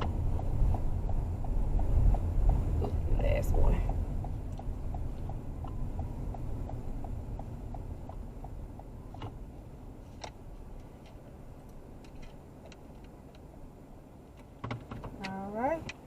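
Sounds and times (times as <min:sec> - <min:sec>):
turn signal clicking: 0:00.0 - 0:13.5
low cabin rumble: 0:00.0 - 0:16.0.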